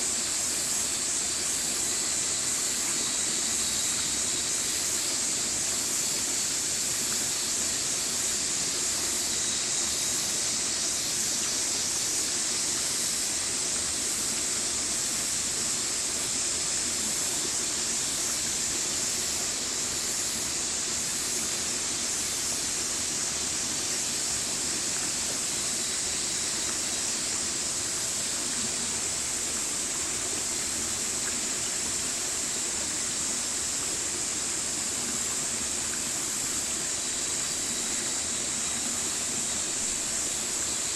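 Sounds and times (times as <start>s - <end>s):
mountain stream over rocks: 0.0s - 40.9s.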